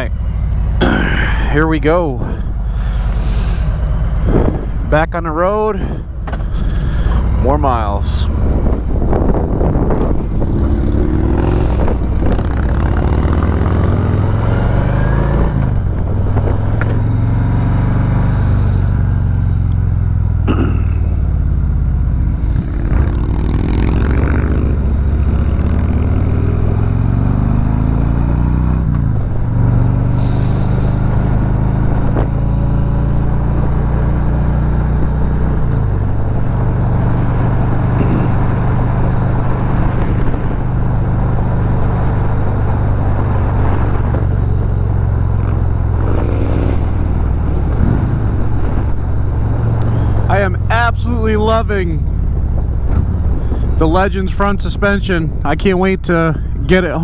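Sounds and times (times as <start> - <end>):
wind rush: 0.0 - 19.6, 22.1 - 55.5
motorcycle engine accelerating: 0.0 - 57.0.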